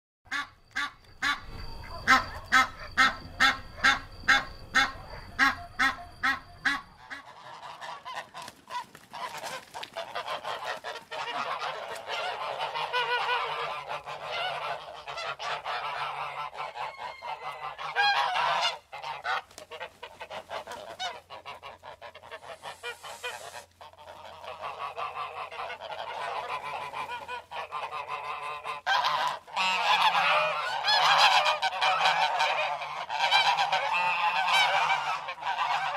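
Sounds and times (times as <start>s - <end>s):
flock of geese honking: 0.3s - 35.9s
goose honking: 0.3s - 35.9s.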